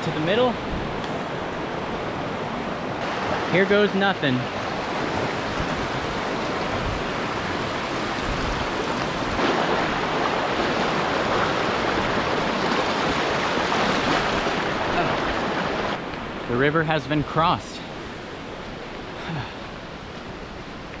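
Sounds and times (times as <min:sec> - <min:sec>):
river rushing over rocks: 0:00.1 - 0:21.0.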